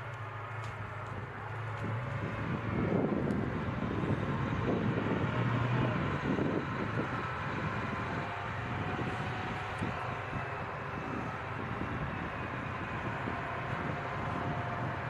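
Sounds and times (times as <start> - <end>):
track noise: 0.0 - 15.0
tracked vehicle engine drone: 0.0 - 15.0.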